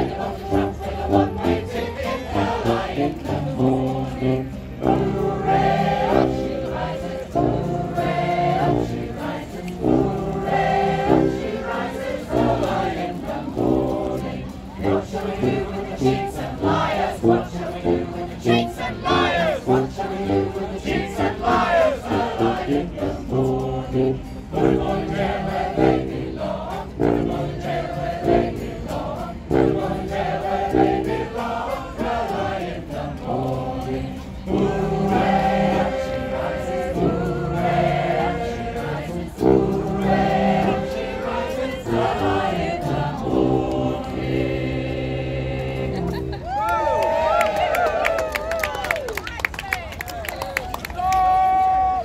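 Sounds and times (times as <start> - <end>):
choir singing: 0.0 - 46.5.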